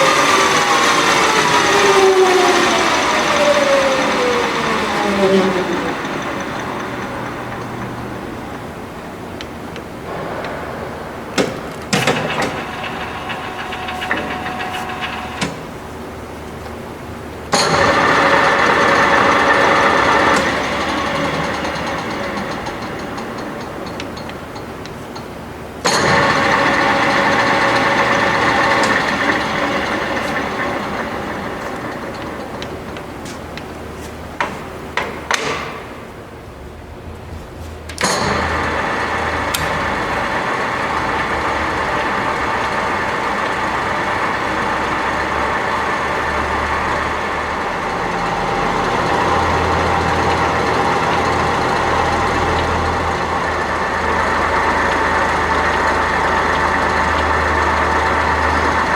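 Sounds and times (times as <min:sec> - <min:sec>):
lathe gear whine: 0:00.0 - 0:35.9, 0:37.9 - 0:58.9.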